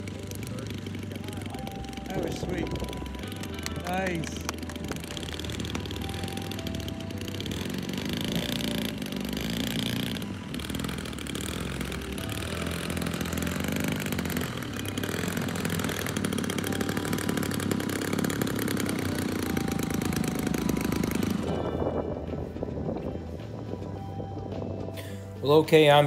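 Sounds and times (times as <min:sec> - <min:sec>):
model airplane engine running: 0:00.0 - 0:24.5.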